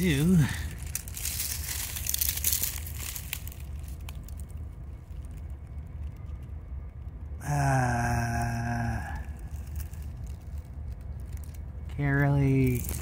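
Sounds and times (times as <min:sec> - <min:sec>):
crackling and rustling: 0:00.0 - 0:07.4, 0:08.2 - 0:13.0
steady low rumble: 0:00.0 - 0:13.0.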